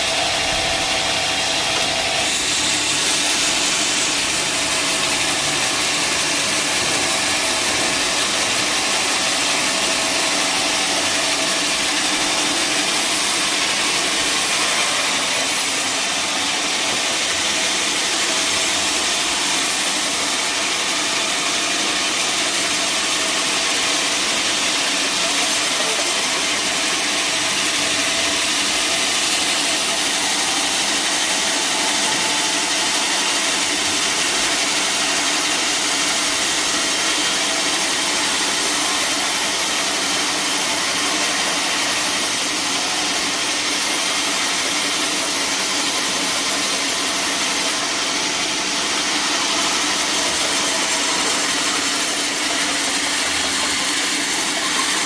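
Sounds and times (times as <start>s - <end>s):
power saw cutting wood: 0.0s - 55.0s.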